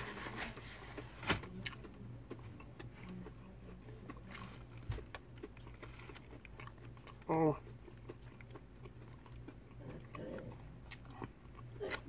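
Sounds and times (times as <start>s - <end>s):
chewing crispy food: 0.0s - 12.0s
steady low hum: 0.0s - 12.0s.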